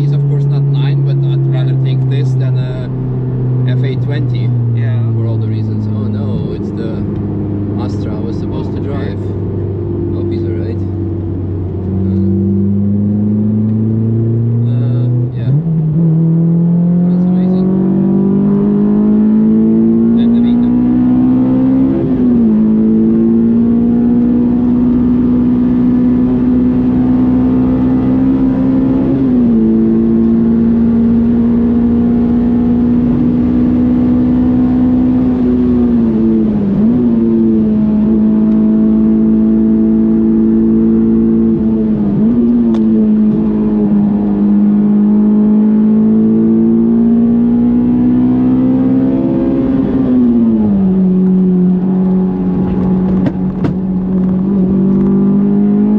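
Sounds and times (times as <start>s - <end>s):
car engine pulling hard: 0.0s - 55.9s.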